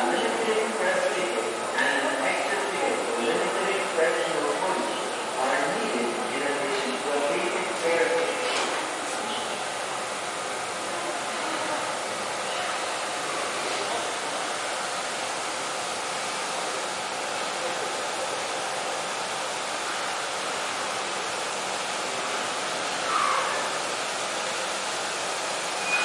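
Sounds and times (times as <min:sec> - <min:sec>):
train rolling in rushing noise: 0:00.0 - 0:26.0.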